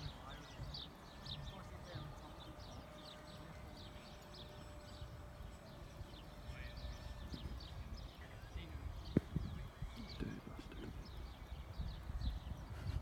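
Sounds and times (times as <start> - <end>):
small birds chirping: 0.0 - 13.0
wind rumble on microphone: 0.0 - 13.0.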